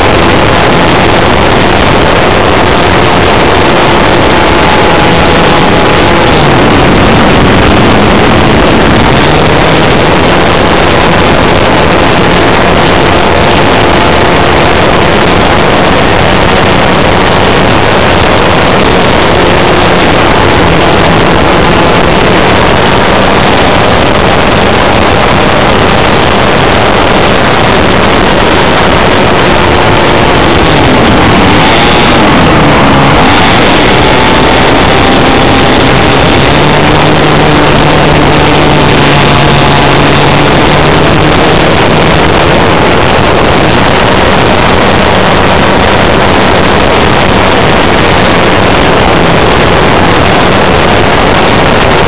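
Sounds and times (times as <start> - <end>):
model airplane engine buzzing: 0.0 - 52.0
wind rush over microphone: 0.0 - 52.0.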